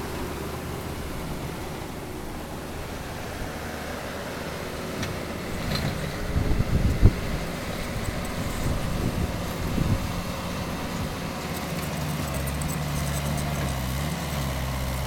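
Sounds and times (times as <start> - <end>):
diesel engine running: 0.0 - 15.0
low engine hum: 0.0 - 15.0.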